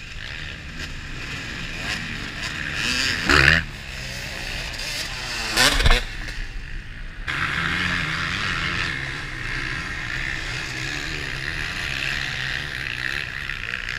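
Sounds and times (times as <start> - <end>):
dirt bike engines: 0.0 - 13.9.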